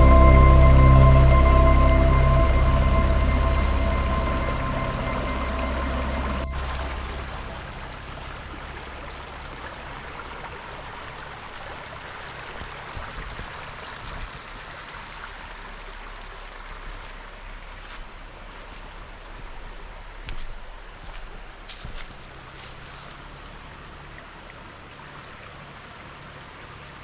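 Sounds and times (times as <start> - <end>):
fast-flowing brook: 3.6 - 27.0.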